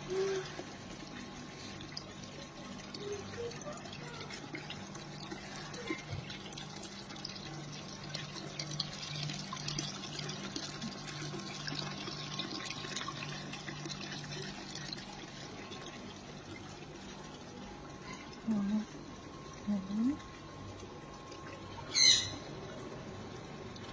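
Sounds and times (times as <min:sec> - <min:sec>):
fountain water trickling and splashing: 0:00.0 - 0:23.9.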